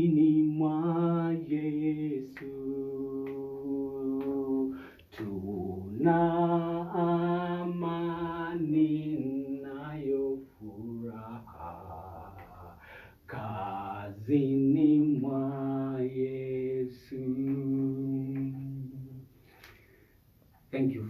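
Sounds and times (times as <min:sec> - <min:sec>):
person singing a hymn unaccompanied: 0:00.0 - 0:19.4.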